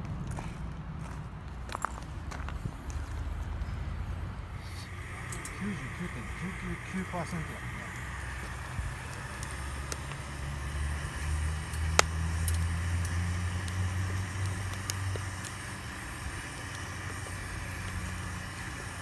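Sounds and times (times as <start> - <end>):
vehicle passing rumble: 0.0 - 19.0.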